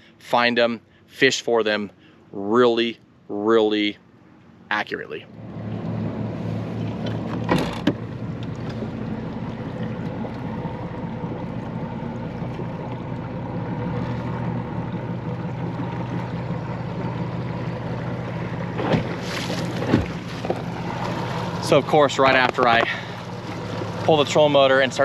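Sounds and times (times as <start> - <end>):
outboard motor idling: 0.0 - 25.0
water noise: 0.4 - 25.0.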